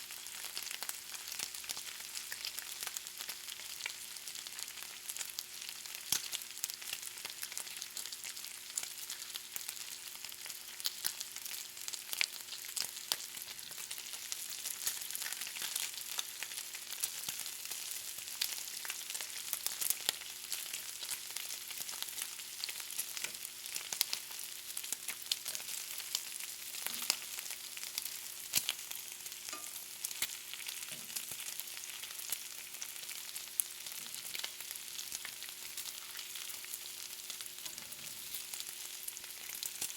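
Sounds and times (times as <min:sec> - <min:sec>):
bacon sizzling and popping: 0:00.0 - 0:39.9.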